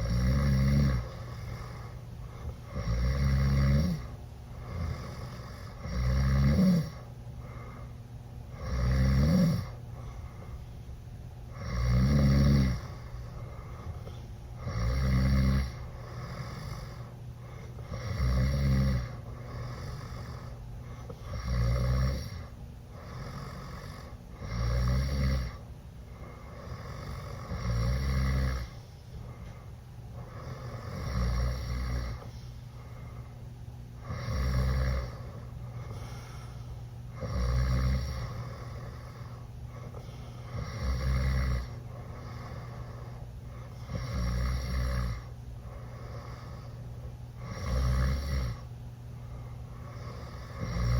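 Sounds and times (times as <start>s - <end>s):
person snoring loudly: 0.0s - 7.7s, 8.5s - 9.8s, 11.5s - 13.8s, 14.6s - 28.8s, 30.2s - 32.3s, 34.0s - 36.5s, 37.1s - 46.8s, 47.4s - 48.7s, 49.8s - 50.9s.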